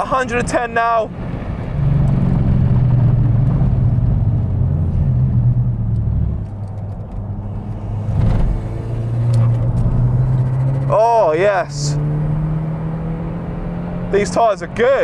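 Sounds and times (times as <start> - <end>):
car engine pulling hard: 0.0 - 15.0
road and wind noise: 0.0 - 15.0.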